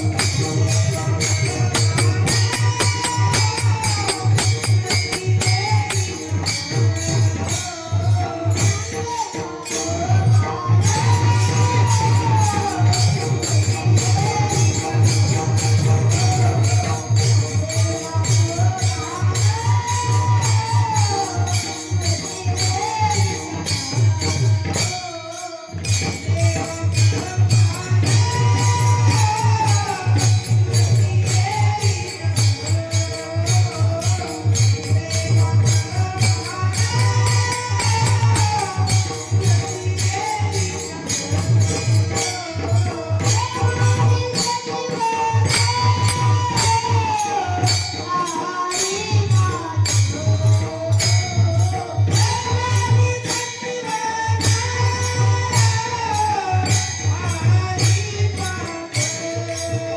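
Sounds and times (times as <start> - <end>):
small hand cymbals striking: 0.0 - 59.9.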